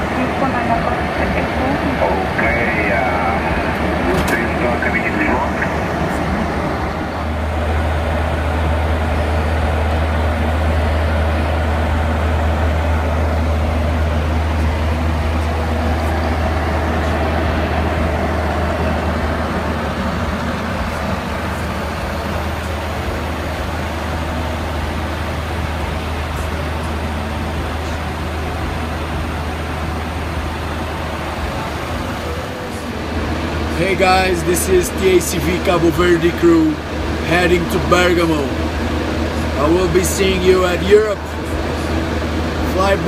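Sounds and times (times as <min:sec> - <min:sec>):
low hum: 0:00.0 - 0:43.0
rush of air in cockpit: 0:00.0 - 0:43.0.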